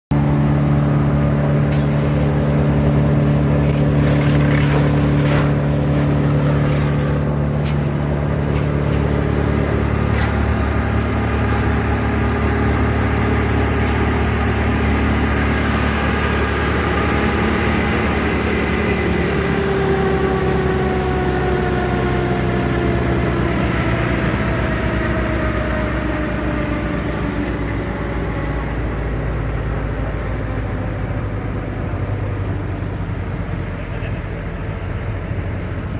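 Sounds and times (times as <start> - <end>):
heavy machine engine running: 0.1 - 35.9.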